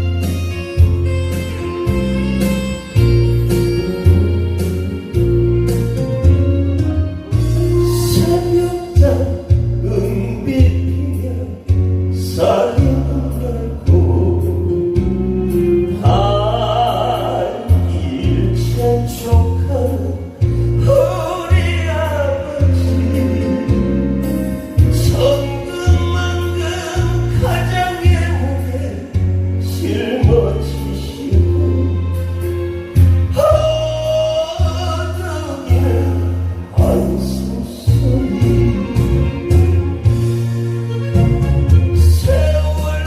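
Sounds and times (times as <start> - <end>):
person singing live: 0.0 - 43.0
stepping bass line: 0.0 - 43.0.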